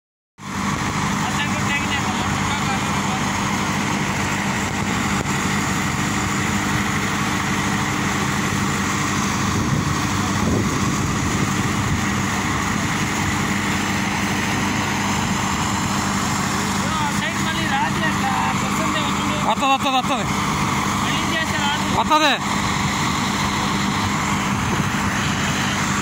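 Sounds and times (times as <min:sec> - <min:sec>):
diesel truck engine running: 0:00.4 - 0:26.0.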